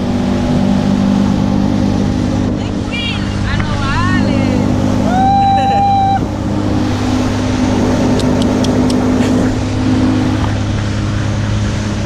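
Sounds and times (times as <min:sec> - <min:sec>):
motorboat engine running: 0:00.0 - 0:12.0
wind and water rushing: 0:00.0 - 0:12.0.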